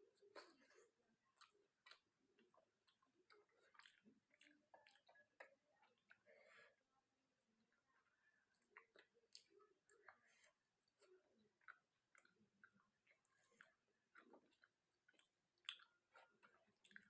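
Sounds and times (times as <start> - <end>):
close-up chewing: 0.0 - 17.0.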